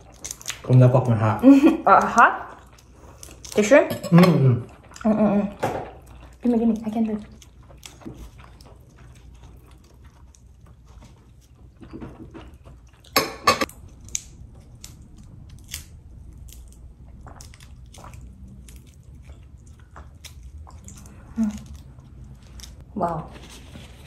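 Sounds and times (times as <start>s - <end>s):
person chewing and crunching: 0.0s - 5.2s, 5.9s - 22.8s.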